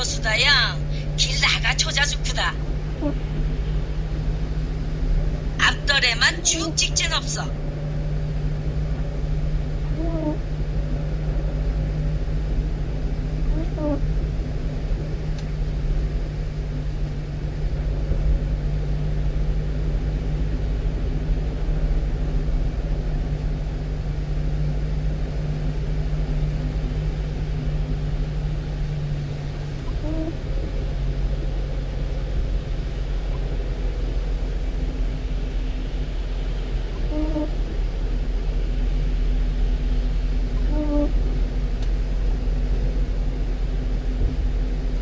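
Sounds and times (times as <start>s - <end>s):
truck engine and road noise: 0.0s - 13.5s, 14.1s - 45.0s.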